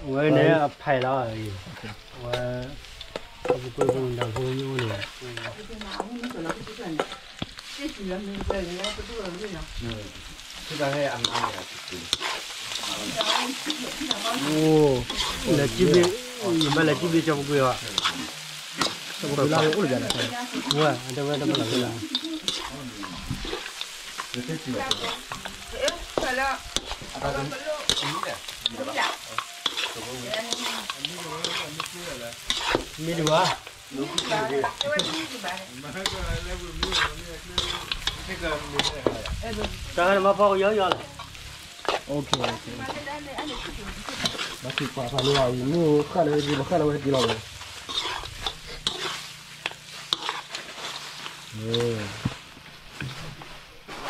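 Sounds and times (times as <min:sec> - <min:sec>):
meat sizzling in a wok: 0:00.0 - 0:54.0
metal spatula scraping and clinking: 0:00.9 - 0:09.1, 0:10.5 - 0:52.2.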